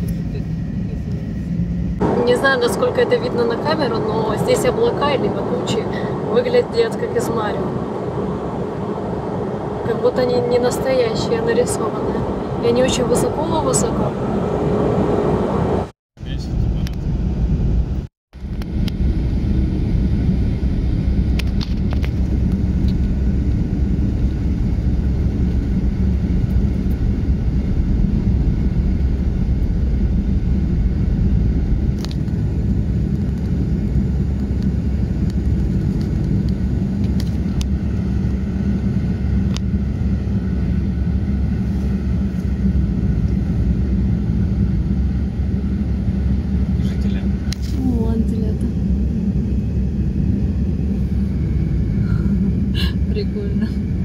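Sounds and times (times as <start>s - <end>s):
tyres and engine rumbling: 0.0s - 54.0s.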